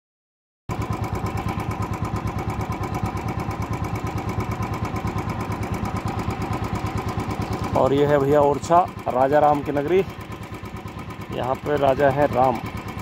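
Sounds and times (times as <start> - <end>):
motorcycle engine running: 0.7 - 13.0.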